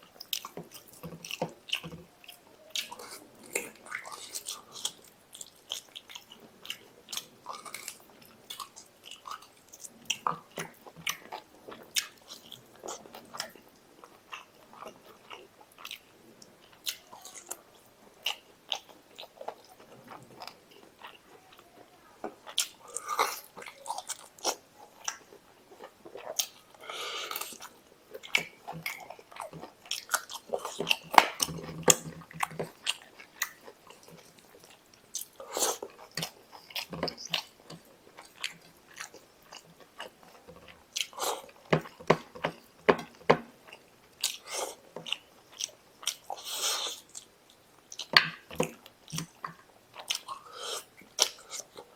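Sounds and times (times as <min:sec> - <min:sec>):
person chewing and smacking: 0:00.0 - 0:51.9.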